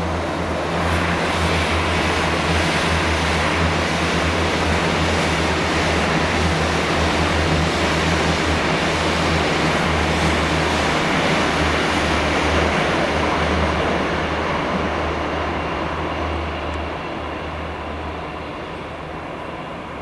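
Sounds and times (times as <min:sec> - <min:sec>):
train running past: 0:00.0 - 0:20.0.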